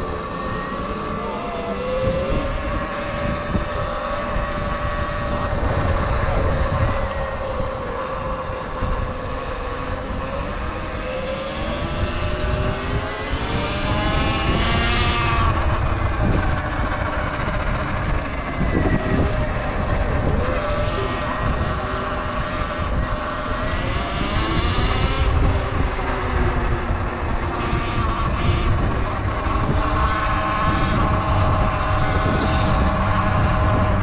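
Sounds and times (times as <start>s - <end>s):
electric dirt bike motor whining: 0.0s - 34.0s
wind on microphone: 0.0s - 34.0s.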